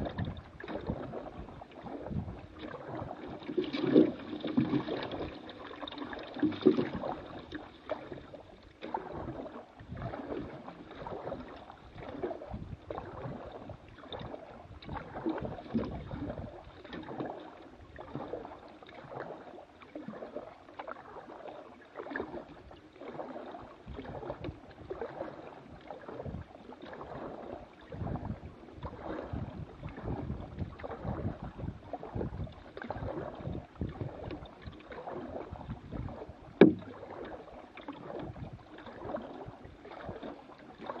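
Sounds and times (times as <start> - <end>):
paddle strokes in water: 0.0 - 41.0.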